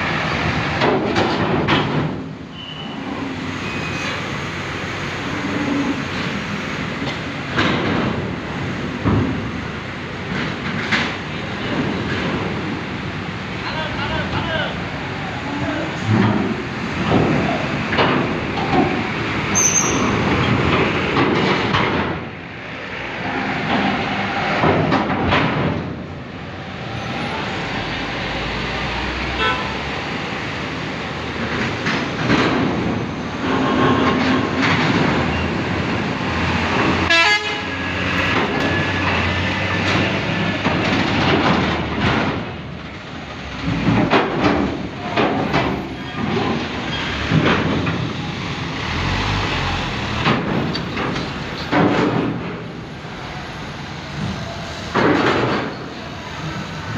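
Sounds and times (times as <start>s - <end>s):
heavy vehicle engines running: 0.0s - 56.9s.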